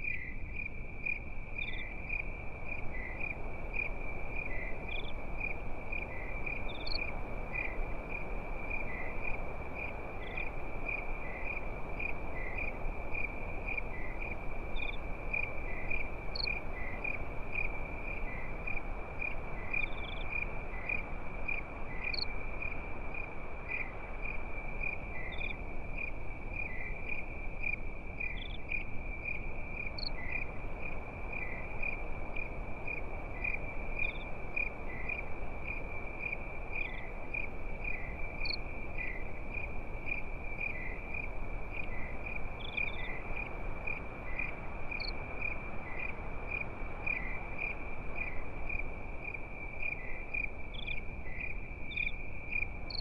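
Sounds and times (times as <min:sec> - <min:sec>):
campfire hiss: 0:00.0 - 0:53.0
crickets trilling: 0:00.0 - 0:53.0
higher cricket chirp: 0:00.0 - 0:53.0.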